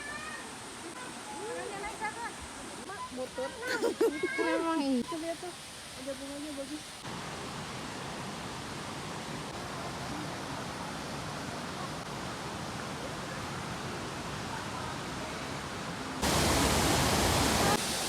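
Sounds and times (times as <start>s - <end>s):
waterfall and stream rushing: 0.0s - 18.0s.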